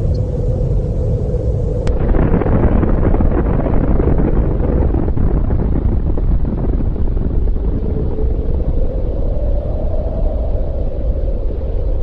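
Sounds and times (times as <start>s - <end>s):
deep explosion rumble: 0.0s - 12.0s.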